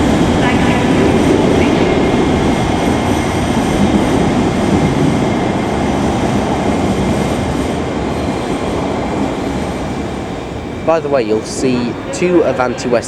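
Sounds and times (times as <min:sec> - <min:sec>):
electric train rumbling on track: 0:00.0 - 0:13.0.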